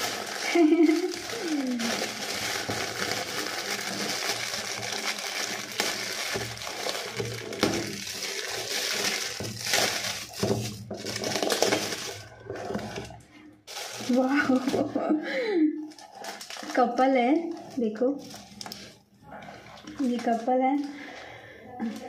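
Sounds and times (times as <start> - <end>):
wrapping paper crinkling: 0.0 - 15.1, 15.8 - 20.5.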